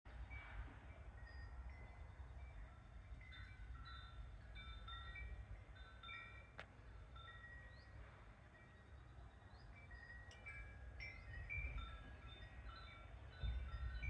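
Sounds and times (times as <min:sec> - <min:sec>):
wind chime ringing: 0:00.3 - 0:14.0.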